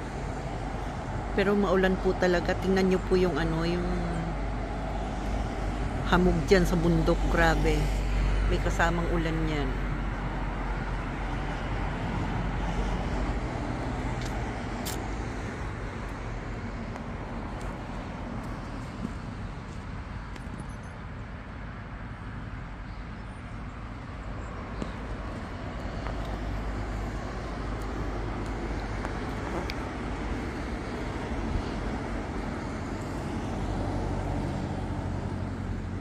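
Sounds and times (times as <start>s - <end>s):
cars passing on wet road: 0.0s - 20.4s, 23.4s - 36.0s.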